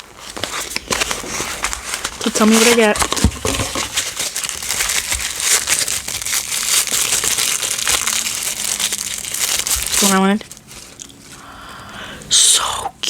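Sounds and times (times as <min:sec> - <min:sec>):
toy wrapper crinkling: 0:00.2 - 0:11.2.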